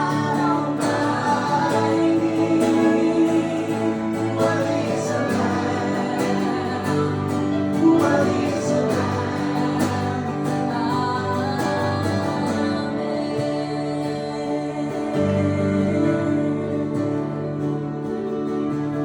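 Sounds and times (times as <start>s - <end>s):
person singing: 0.0s - 18.3s
acoustic guitar strummed: 0.0s - 19.0s.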